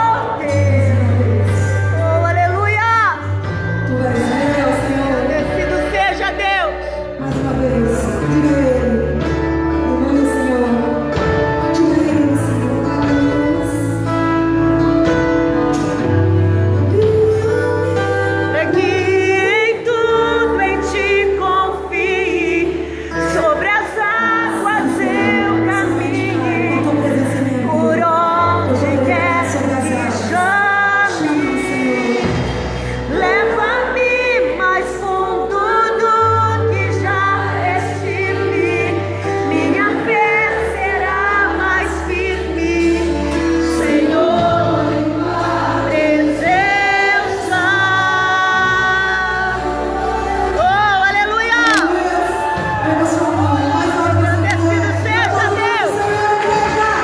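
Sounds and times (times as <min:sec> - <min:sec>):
band with held bass notes: 0:00.0 - 0:57.0
person singing with vibrato: 0:00.0 - 0:57.0.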